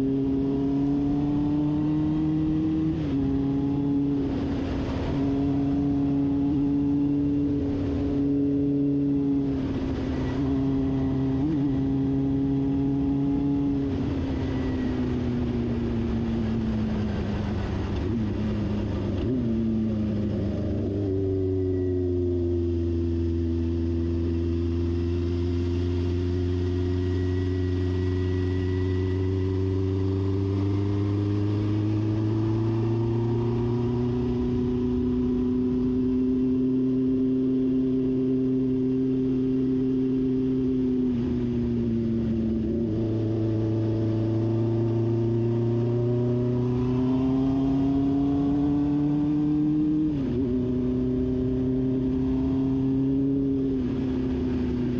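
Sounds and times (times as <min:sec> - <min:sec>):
motorcycle engine pulling uphill: 0:00.0 - 0:54.9.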